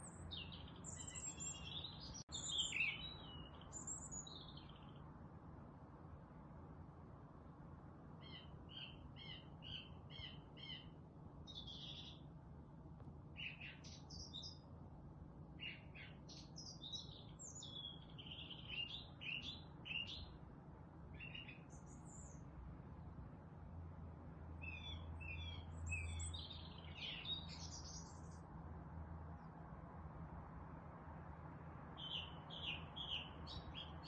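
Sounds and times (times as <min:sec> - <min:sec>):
songbirds chirping and twittering: 0:00.0 - 0:34.0.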